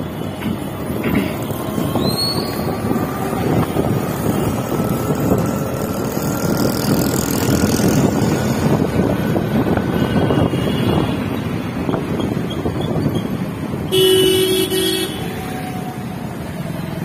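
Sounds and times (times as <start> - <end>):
wind rushing over microphone: 0.0 - 14.2
motorbike rumble: 0.5 - 15.7.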